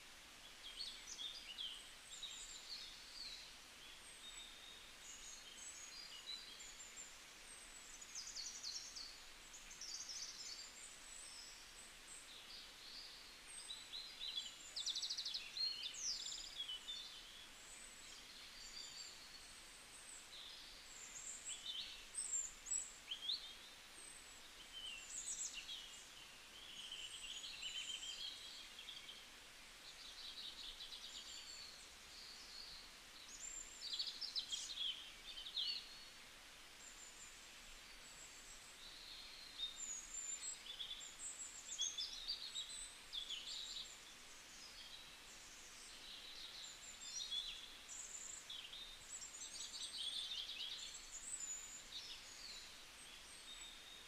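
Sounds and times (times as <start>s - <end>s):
outdoor ambient hiss: 0.0s - 54.0s
songbirds chirping and trilling: 0.2s - 54.0s.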